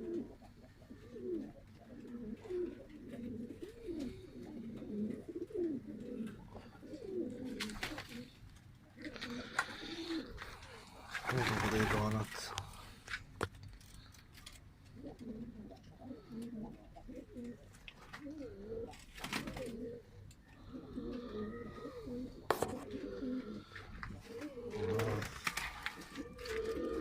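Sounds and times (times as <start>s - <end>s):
pigeons cooing: 0.0s - 12.9s, 13.9s - 27.0s.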